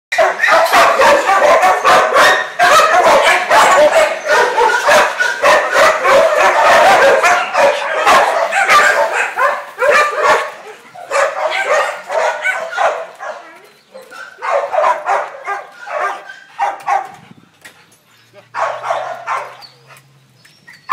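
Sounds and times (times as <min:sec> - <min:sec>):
many dogs barking: 0:00.1 - 0:17.2, 0:18.2 - 0:20.1.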